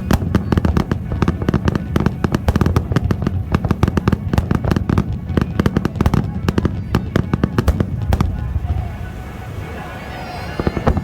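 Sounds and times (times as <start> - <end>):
deep rolling rumble: 0.0 - 11.0
fireworks bangs: 0.0 - 11.0.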